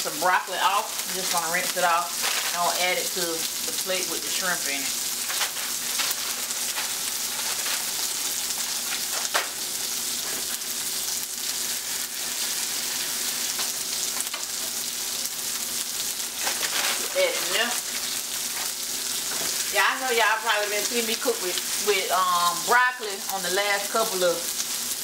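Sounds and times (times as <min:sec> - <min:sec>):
sausage sizzling in a skillet: 0:00.0 - 0:25.0.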